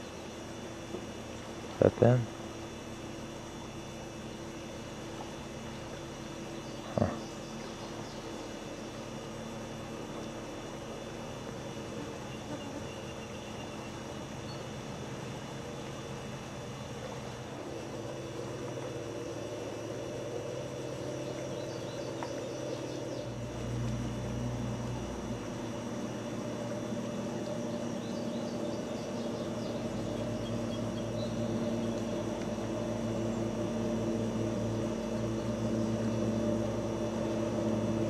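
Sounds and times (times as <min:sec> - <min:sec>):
engine droning: 0:00.0 - 0:38.0.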